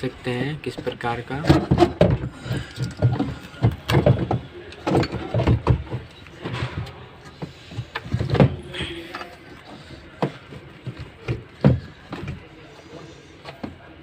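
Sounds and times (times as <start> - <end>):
knocks and clatter of motor fitting: 0.7 - 12.5.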